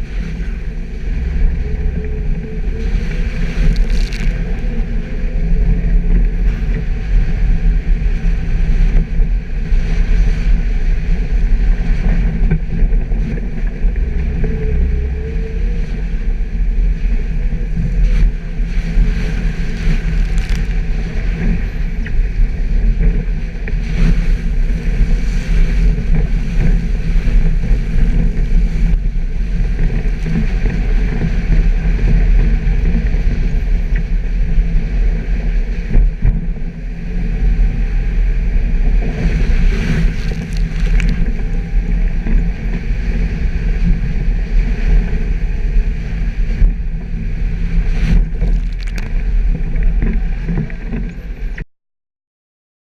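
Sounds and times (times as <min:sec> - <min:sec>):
off-road vehicle engine rumble: 0:00.0 - 0:51.6.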